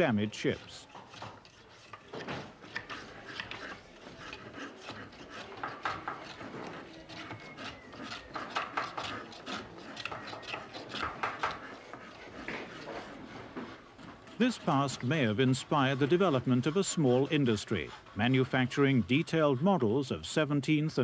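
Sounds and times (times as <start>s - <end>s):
hand tools scraping on wood: 0.0s - 21.0s.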